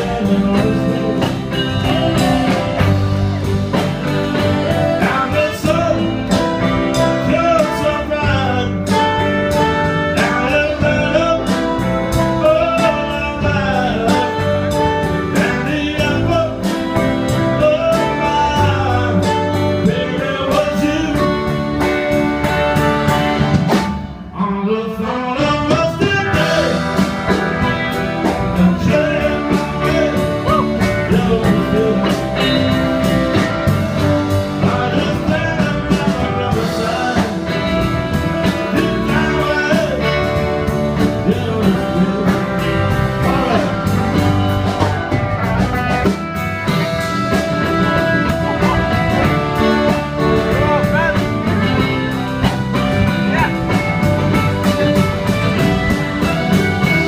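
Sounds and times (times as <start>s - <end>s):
drums: 0.0s - 57.0s
electric guitar: 0.0s - 57.0s
live band playing: 0.0s - 57.0s.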